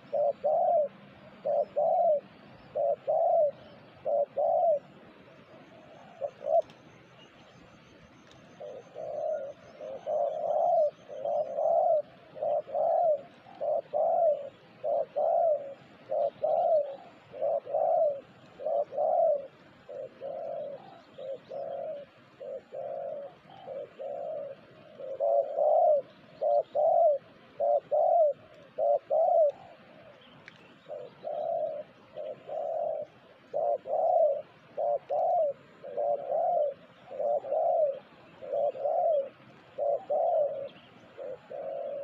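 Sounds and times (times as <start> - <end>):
dove cooing: 0.0 - 42.0.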